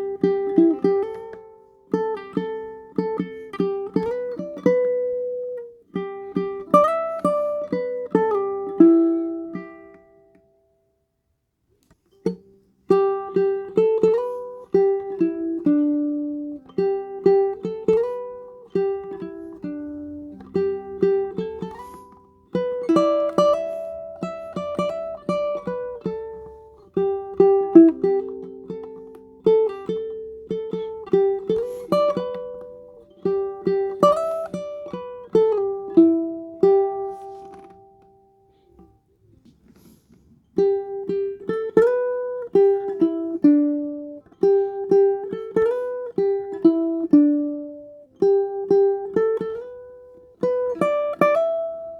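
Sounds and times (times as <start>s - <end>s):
plucked string instrument melody: 0.0s - 11.0s, 11.8s - 51.9s.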